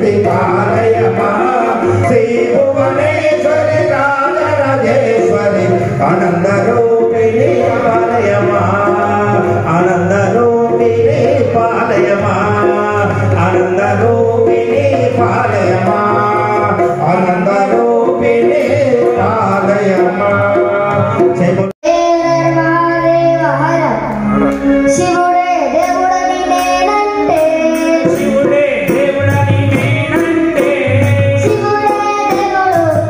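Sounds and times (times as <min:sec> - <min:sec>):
devotional singing with music: 0:00.0 - 0:33.0.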